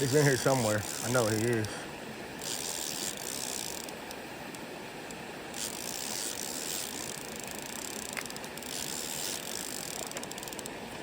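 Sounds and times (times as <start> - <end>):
fishing reel ratcheting whir: 0.0 - 1.7, 2.4 - 4.2, 5.0 - 10.8.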